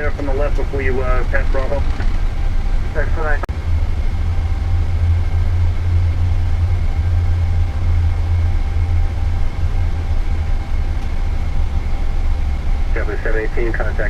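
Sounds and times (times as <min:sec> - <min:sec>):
aircraft cockpit rumble: 0:00.0 - 0:14.0
faint steady whines: 0:00.0 - 0:14.0.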